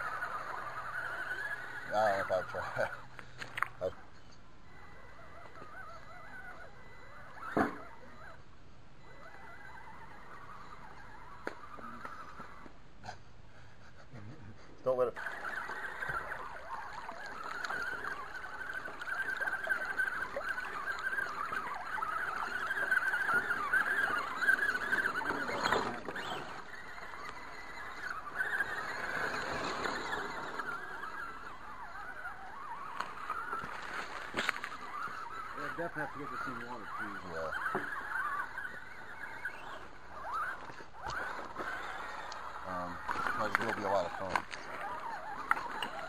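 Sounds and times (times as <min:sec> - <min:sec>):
electric motor whining: 0:00.0 - 0:13.0, 0:14.9 - 0:46.0.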